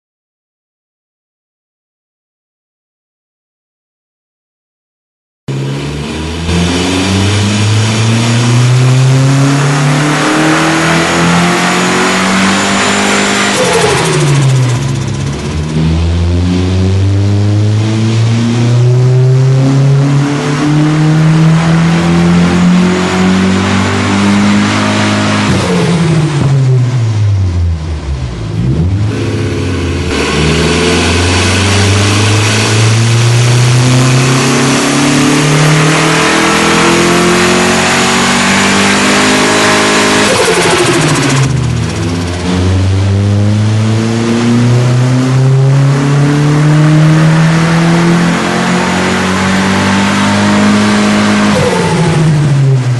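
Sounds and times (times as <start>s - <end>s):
car engine revving on dyno: 5.5s - 52.9s.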